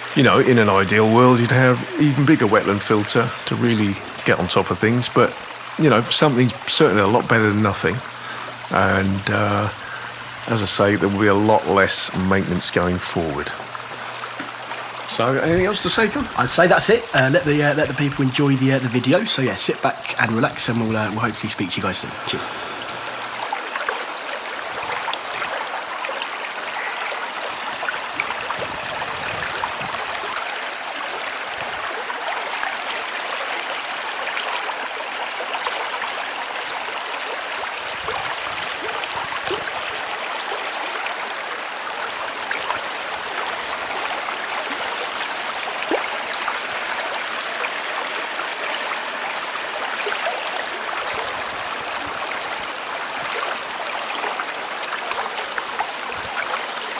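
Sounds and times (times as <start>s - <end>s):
waterfall splashing into pond: 0.0s - 56.9s.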